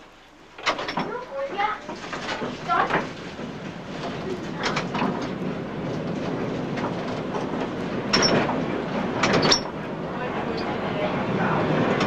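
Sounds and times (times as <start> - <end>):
loud tram clatter: 0.0 - 12.0
tram wheels rumbling on rail: 0.0 - 12.0.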